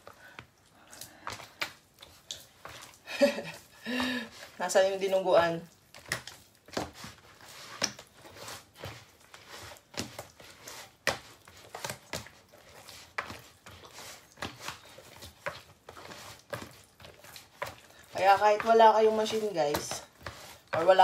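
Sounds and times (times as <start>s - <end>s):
dough squishing and slapping: 0.0s - 21.0s.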